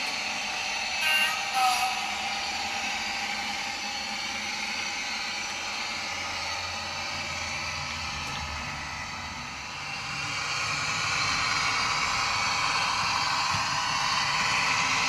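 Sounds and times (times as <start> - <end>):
diesel engine sound from small speaker: 0.0 - 15.0.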